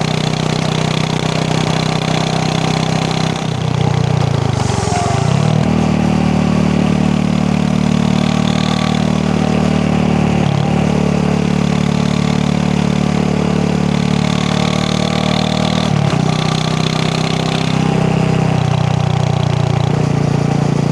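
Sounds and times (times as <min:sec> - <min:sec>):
motorcycle engine thumping: 0:00.0 - 0:20.9.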